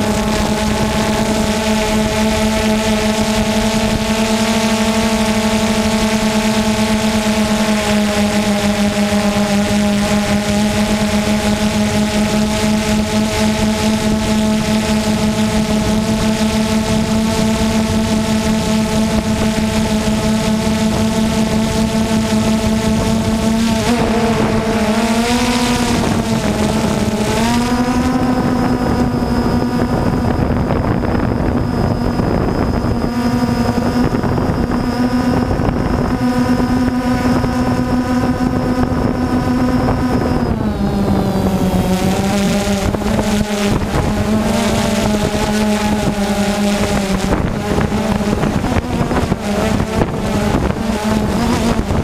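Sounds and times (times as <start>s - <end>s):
drone propellers humming: 0.0s - 52.0s
faint high whine: 0.0s - 52.0s
wind rushing over microphone: 0.0s - 52.0s.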